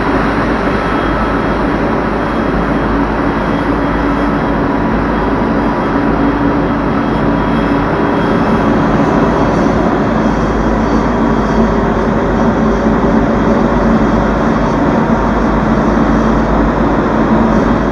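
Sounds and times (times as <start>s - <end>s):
jet engines running: 0.0s - 17.9s.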